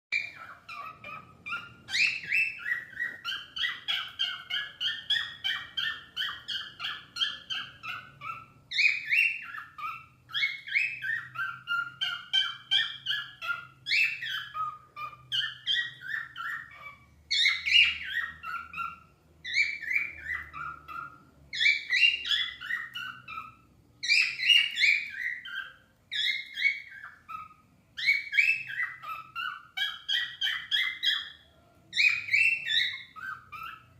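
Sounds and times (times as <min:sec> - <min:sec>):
cockatiels whistling chirps: 0:00.1 - 0:33.9.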